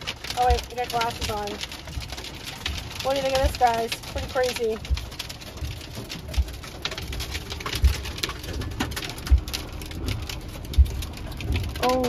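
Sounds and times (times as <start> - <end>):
heavy rain on a vehicle roof: 0.0 - 12.0.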